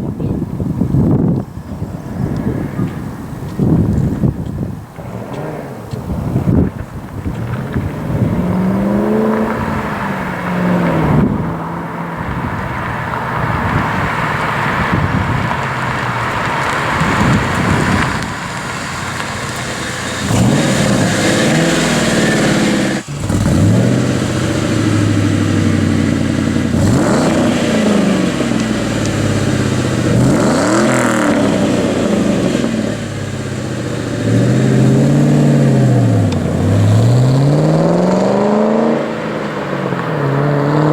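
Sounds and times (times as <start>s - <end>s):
road and wind noise: 0.0s - 40.9s
car engine revving: 0.9s - 40.9s.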